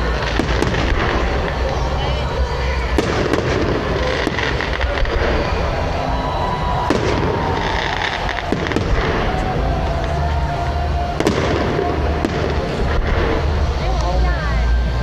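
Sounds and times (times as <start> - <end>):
sharp firework cracks: 0.0 - 14.1
fireworks rumbling bursts: 0.0 - 15.0.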